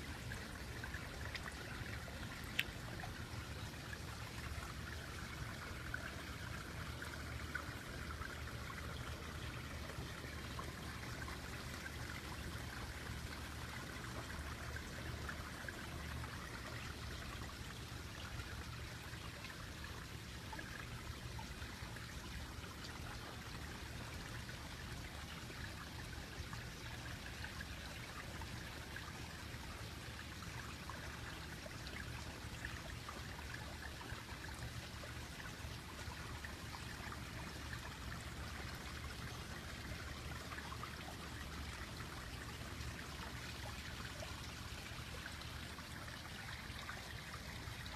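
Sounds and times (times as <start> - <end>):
low steady hum: 0.0 - 47.9
water trickling and splashing: 0.0 - 47.9.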